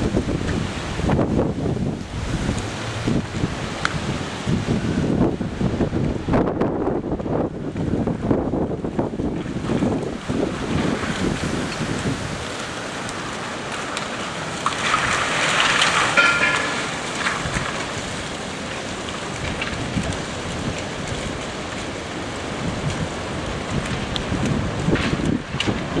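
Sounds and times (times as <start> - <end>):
storm wind and rain: 0.0 - 26.0
wind buffeting microphone: 0.0 - 26.0.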